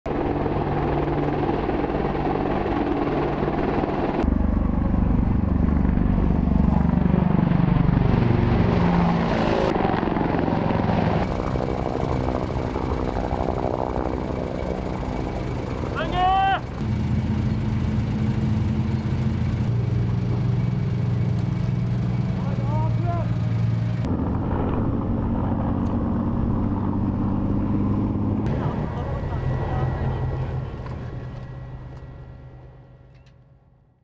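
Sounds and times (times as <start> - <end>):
helicopter rotor and engines: 0.1 - 34.0.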